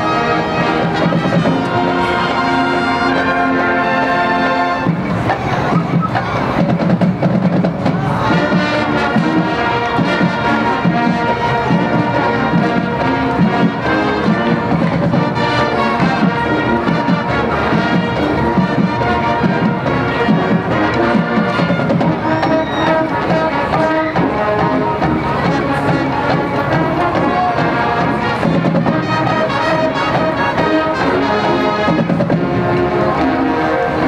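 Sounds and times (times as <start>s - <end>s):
brass melody: 0.0s - 34.0s
marching band playing: 0.0s - 34.0s.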